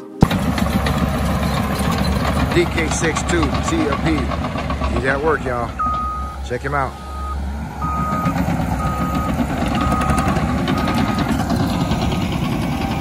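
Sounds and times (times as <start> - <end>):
bulldozer diesel engine: 0.2 - 13.0
backup alarm beeping: 1.4 - 12.4.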